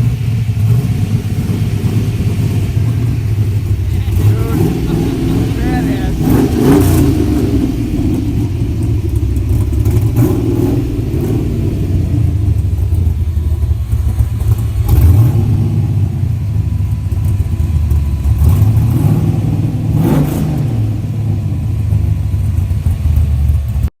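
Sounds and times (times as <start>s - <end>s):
car engine revving: 0.0s - 22.8s.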